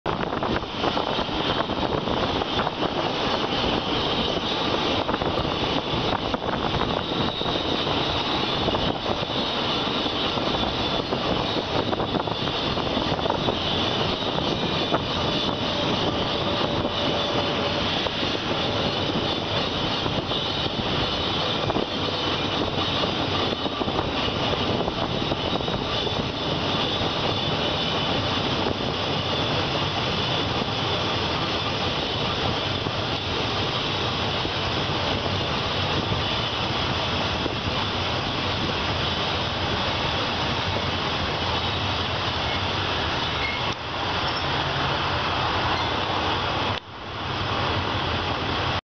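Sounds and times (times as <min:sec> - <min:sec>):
train wheels rolling: 0:00.1 - 0:48.8
wind rushing: 0:00.1 - 0:48.8.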